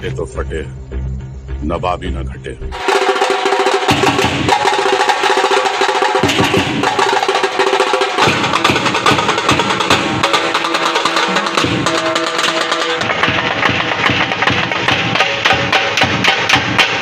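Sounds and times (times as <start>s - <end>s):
drum group playing fast rhythm: 2.8s - 17.0s.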